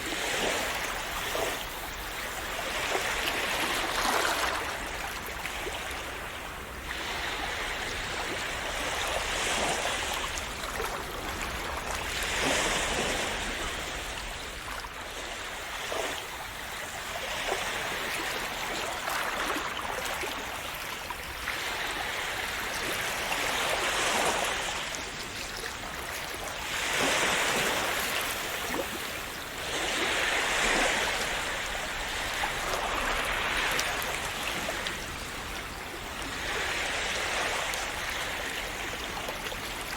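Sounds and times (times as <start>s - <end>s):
sea waves splashing: 0.0s - 39.9s.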